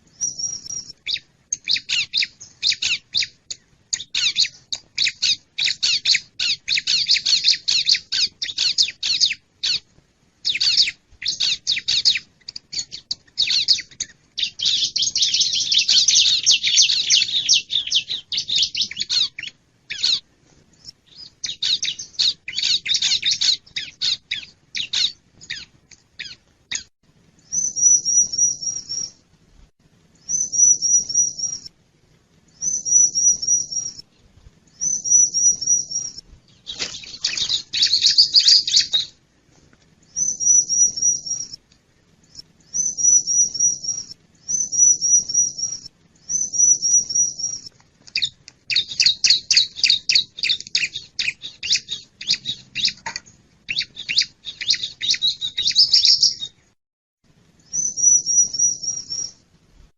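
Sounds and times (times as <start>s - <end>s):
scratchy bird chirping: 0.1s - 26.9s, 27.5s - 29.2s, 30.2s - 31.7s, 32.5s - 39.2s, 40.1s - 41.6s, 42.3s - 56.6s, 57.7s - 59.4s.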